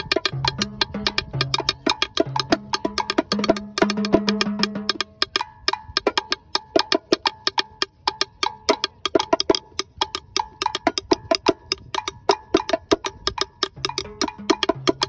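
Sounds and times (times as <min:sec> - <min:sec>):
hand drum slaps and tones: 0:00.0 - 0:15.0.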